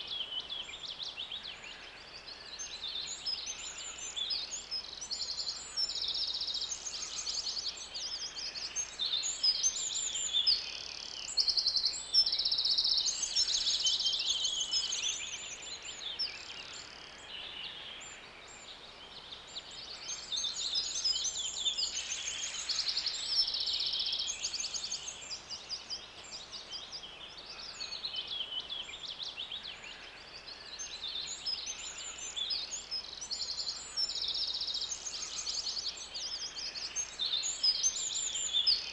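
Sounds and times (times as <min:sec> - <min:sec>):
birds chirping and trilling: 0:00.0 - 0:38.9.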